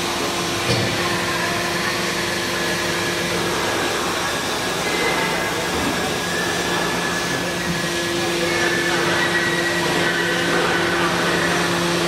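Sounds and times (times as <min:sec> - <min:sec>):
hydraulic pump hum and whine: 0:00.0 - 0:12.0.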